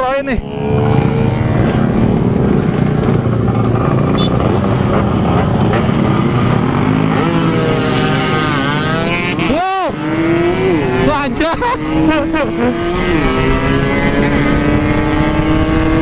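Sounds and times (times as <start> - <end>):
motorcycle engine accelerating: 0.3 - 16.0.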